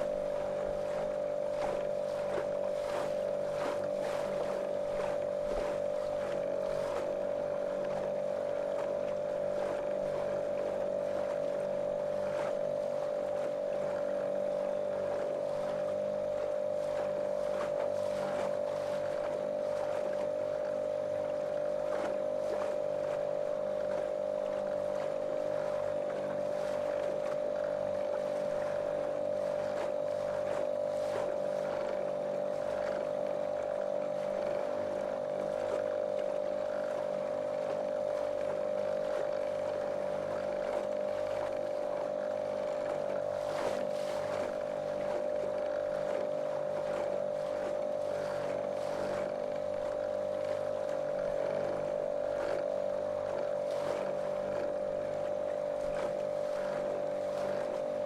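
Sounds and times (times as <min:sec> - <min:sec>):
outboard engine droning: 0:00.0 - 0:58.0
water rushing against hull: 0:00.0 - 0:58.0.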